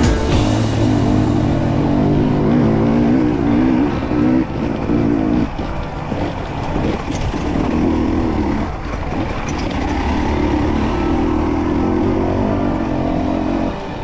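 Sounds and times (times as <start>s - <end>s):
two-stroke dirt bike engine: 0.0s - 14.0s.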